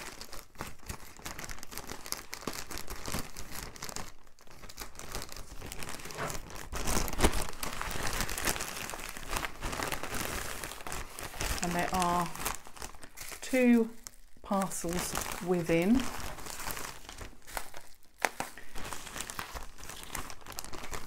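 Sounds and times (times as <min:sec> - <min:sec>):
packaging rustling and crackling: 0:00.0 - 0:21.0.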